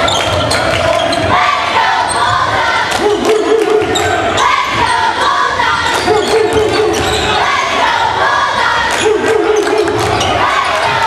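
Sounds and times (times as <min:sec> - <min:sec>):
crowd noise: 0:00.0 - 0:11.0
spectators shouting: 0:00.0 - 0:11.0.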